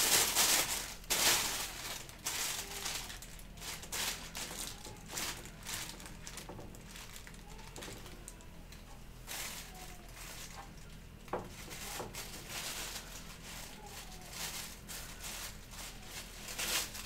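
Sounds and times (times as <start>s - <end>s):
plastic bag crinkling: 0.0s - 8.4s, 9.2s - 17.0s
low steady hum: 0.0s - 17.0s.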